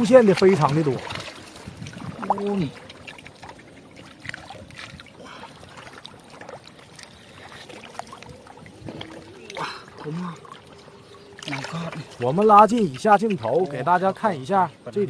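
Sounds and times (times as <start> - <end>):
splashing in shallow water: 0.0 - 15.0.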